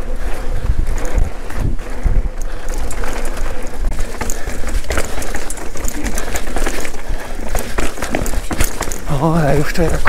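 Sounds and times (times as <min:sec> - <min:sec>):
wind rumble on microphone: 0:00.0 - 0:09.2
bike rattling over bumps: 0:00.0 - 0:10.0
tyres crunching over dirt and stones: 0:00.1 - 0:10.0.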